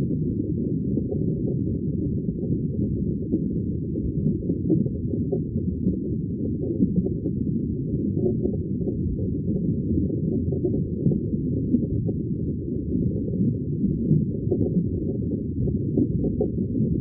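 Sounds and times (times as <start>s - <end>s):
underwater bubbling: 0.0s - 17.0s.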